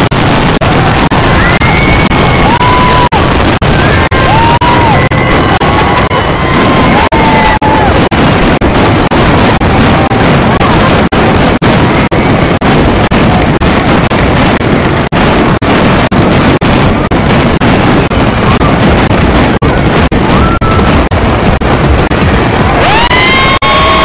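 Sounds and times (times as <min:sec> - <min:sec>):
fireworks bursts and crackle: 0:00.0 - 0:24.0.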